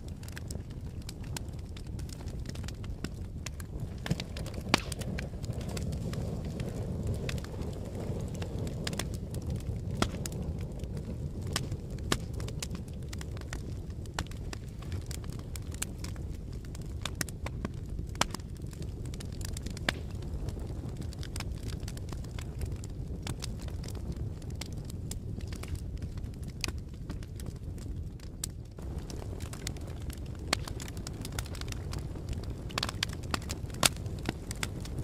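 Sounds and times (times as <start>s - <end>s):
fire crackling and popping: 0.0s - 35.0s
wood fire roaring: 0.0s - 35.0s.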